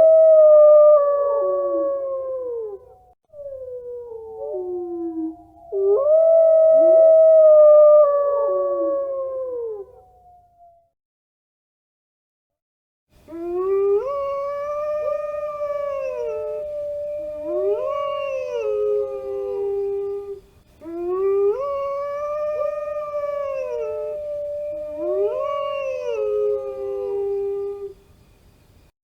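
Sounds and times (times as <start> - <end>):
wolves howling: 0.0 - 10.2, 13.3 - 27.9.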